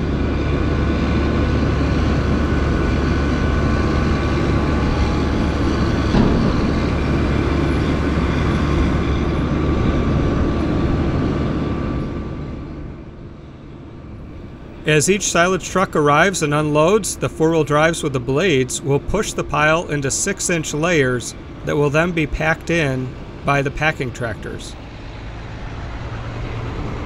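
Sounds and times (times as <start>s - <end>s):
steady engine whine: 0.0s - 27.0s
tractor diesel engine rumble: 0.0s - 27.0s.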